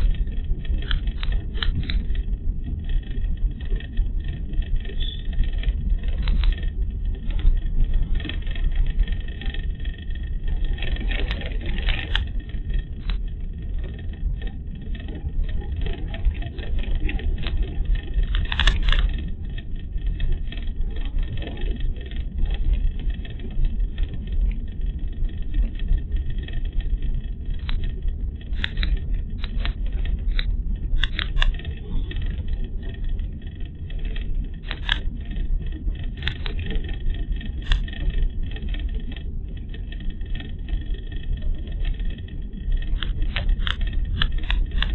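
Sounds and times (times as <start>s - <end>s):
rattling clicks: 0.0s - 15.1s, 15.7s - 24.2s, 25.3s - 44.9s
road and engine rumble: 0.0s - 44.9s.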